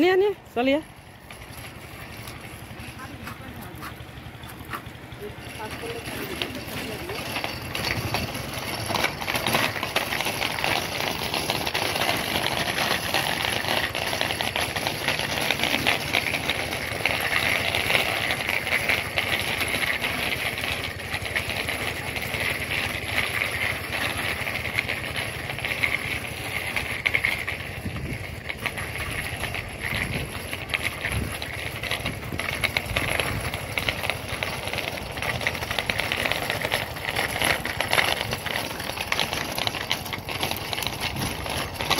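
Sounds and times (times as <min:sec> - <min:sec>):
bicycle rattling over pavement: 0:00.0 - 0:41.9.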